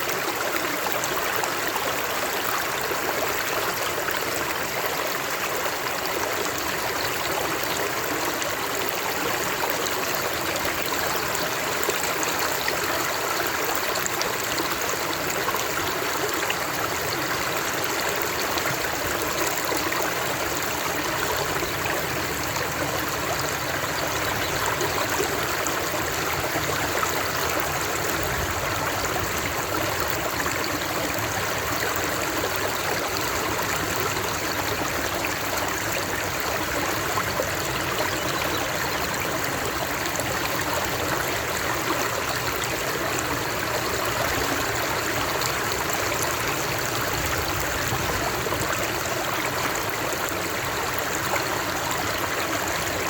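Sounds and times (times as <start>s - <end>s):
water flowing over rocks: 0.0s - 53.0s.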